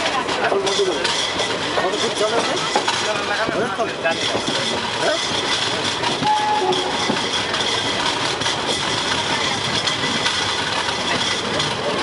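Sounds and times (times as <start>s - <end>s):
passenger train running: 0.0s - 12.0s.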